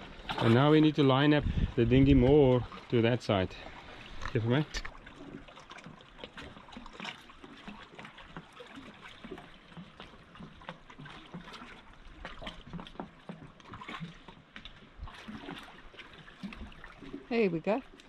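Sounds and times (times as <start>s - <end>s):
small waves lapping on rocks: 0.0s - 18.0s.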